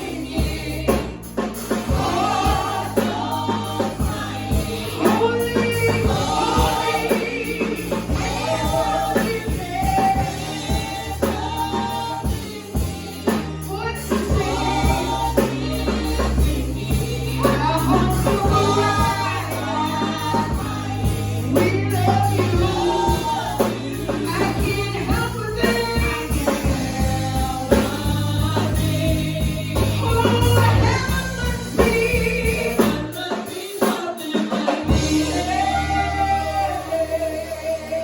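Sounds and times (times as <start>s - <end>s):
bass line: 0.0s - 33.1s, 34.8s - 38.0s
gospel choir singing: 0.0s - 38.0s.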